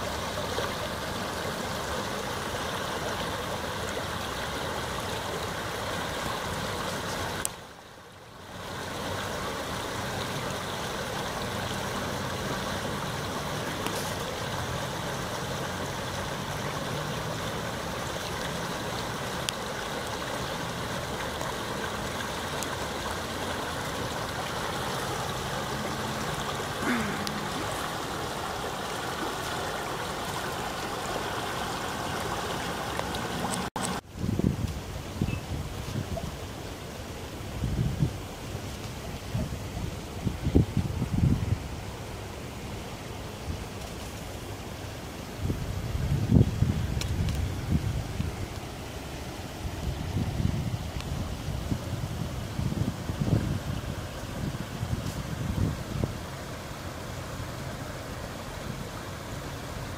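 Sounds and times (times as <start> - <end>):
floodwater rushing over rocks: 0.0 - 59.9.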